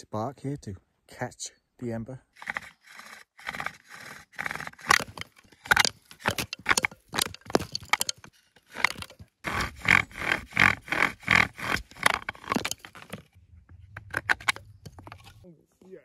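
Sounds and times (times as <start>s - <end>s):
bow drill spindle grinding and squeaking: 2.3s - 15.4s.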